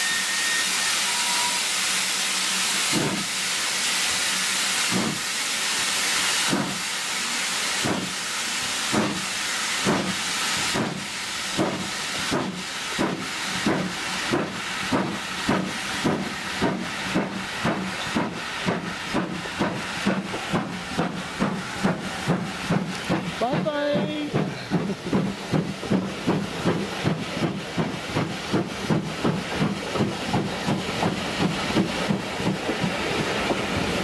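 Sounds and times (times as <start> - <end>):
steam hissing: 0.0 - 34.0
steam locomotive exhaust beats: 0.0 - 34.0.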